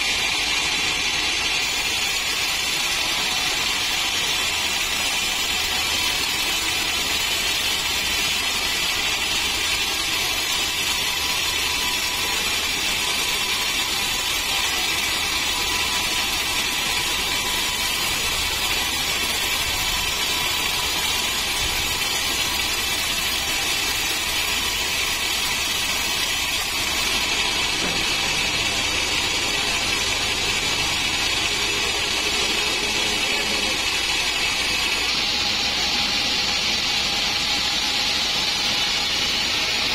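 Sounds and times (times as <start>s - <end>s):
band saw cutting log: 0.0s - 39.9s
sawmill machine running: 0.0s - 39.9s.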